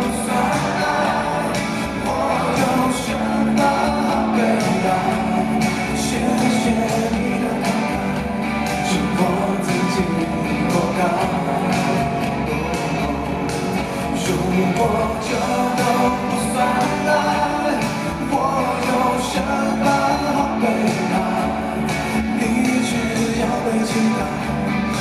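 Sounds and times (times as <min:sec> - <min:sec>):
live pop-rock band: 0:00.0 - 0:25.0
man singing: 0:00.0 - 0:25.0.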